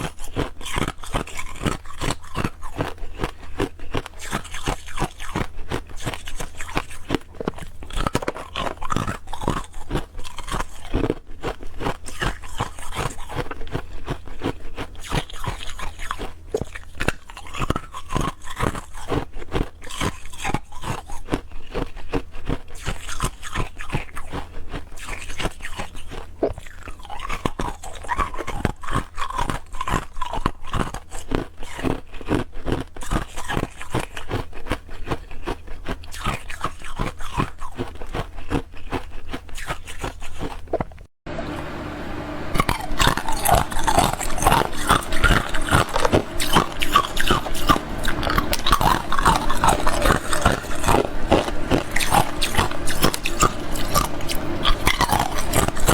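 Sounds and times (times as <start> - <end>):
chewing ice cubes crunching: 0.0 - 41.1, 42.6 - 55.9.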